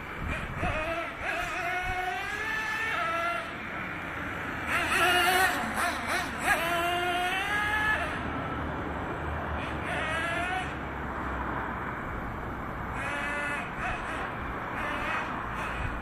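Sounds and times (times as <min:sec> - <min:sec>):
model truck engine revving: 0:00.0 - 0:11.4, 0:12.0 - 0:16.0.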